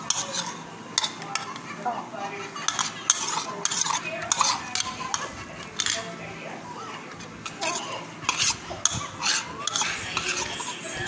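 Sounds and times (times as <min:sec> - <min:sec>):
spoon scraping a plate: 0:00.0 - 0:01.7, 0:02.5 - 0:06.2, 0:07.1 - 0:11.0.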